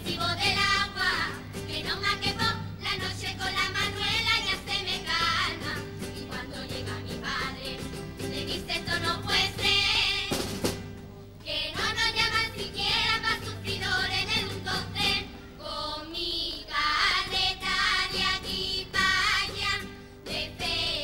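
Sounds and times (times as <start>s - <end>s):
girls choir singing: 0.0s - 10.5s, 11.4s - 21.0s.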